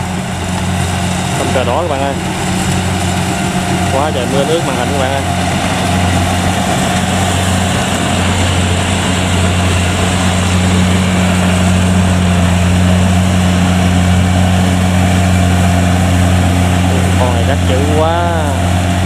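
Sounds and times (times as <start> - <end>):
combine harvester engine humming: 0.0 - 19.0.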